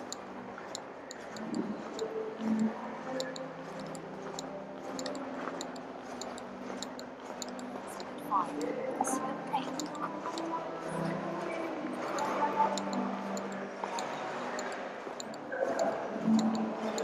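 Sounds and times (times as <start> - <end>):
light repeating click: 0.0 - 8.8, 9.6 - 10.5, 12.0 - 17.0.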